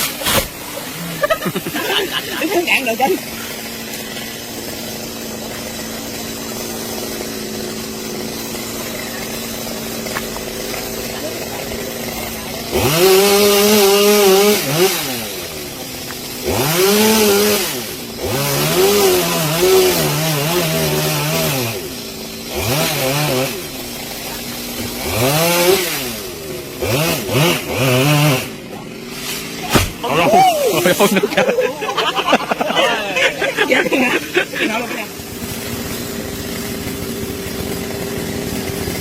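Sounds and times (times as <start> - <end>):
chainsaw revving: 0.0 - 39.0.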